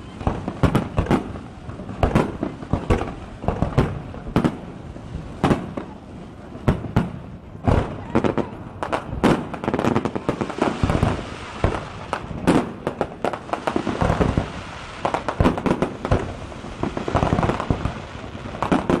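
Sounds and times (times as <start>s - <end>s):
firework bangs: 0.0s - 19.0s
firework crackle: 0.0s - 19.0s.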